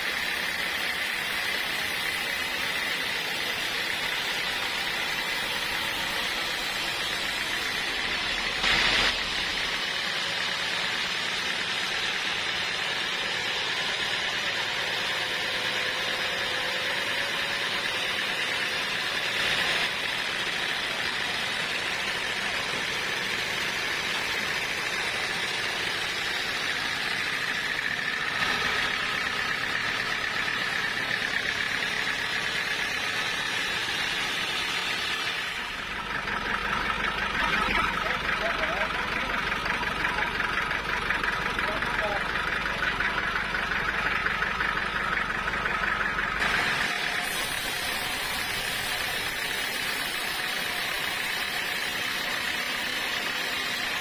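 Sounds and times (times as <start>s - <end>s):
machine whining and humming: 0.0s - 54.0s.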